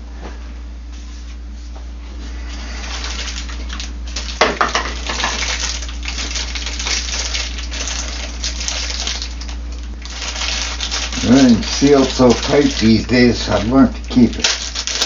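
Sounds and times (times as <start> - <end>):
packaging rustling and scraping: 2.3 - 15.0.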